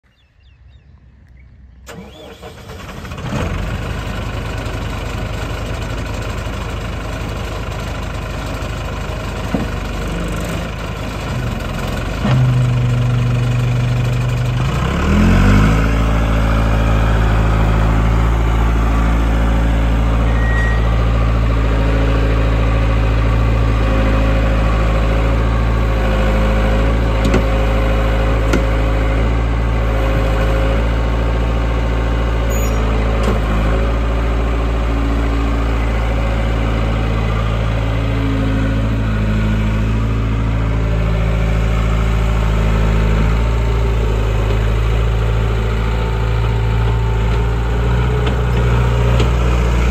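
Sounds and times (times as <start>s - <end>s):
diesel engine revving: 1.3s - 49.9s.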